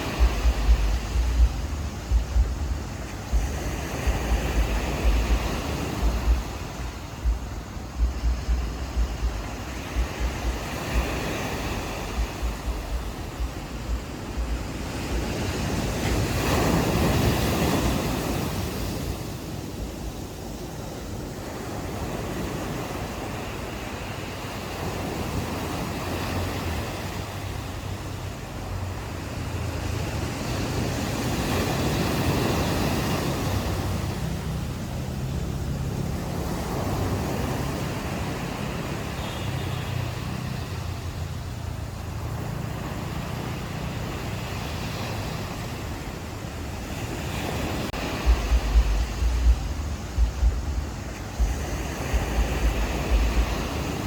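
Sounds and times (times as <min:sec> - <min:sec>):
ocean waves washing onto shore: 0:00.0 - 0:54.0
wind rumble on microphone: 0:00.0 - 0:54.0.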